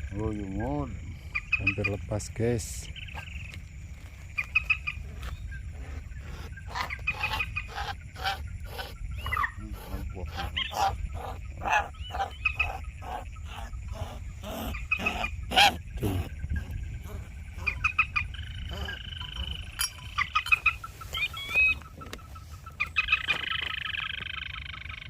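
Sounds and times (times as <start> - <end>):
moorhen croaking calls: 0.0 - 2.1, 4.4 - 25.0
steady low rumble: 0.0 - 21.1.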